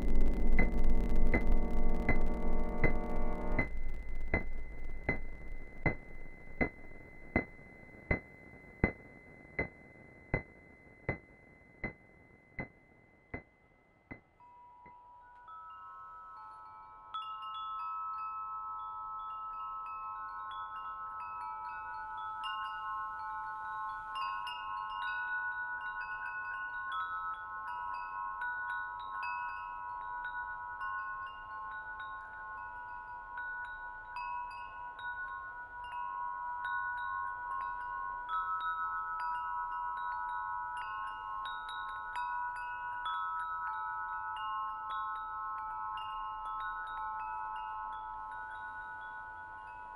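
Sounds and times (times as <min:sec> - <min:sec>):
chimes ringing: 0:00.0 - 0:49.9.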